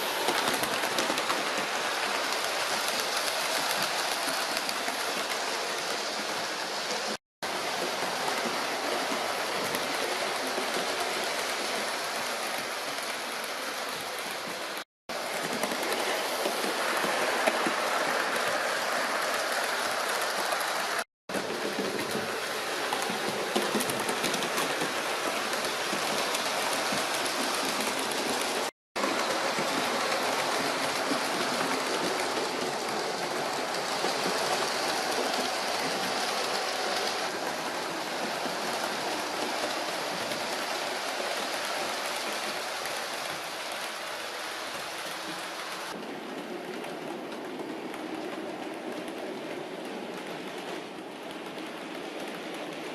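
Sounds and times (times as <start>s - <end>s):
model train wheels on rail: 0.0s - 52.9s.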